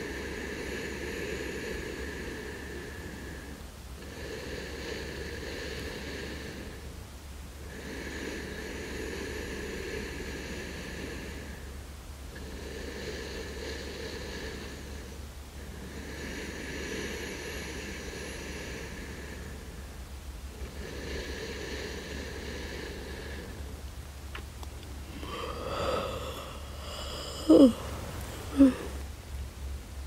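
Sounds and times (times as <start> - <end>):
deep sleep breathing: 0.0 - 7.0, 7.6 - 23.8, 25.0 - 29.1
steady low hum: 0.0 - 30.0.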